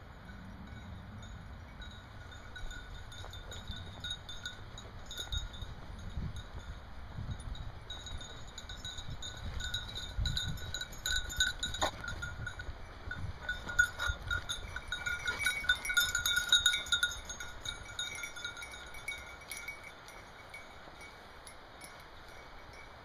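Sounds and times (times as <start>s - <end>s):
wind rumble on microphone: 0.0s - 21.1s
dog collar bell ringing: 0.2s - 23.0s.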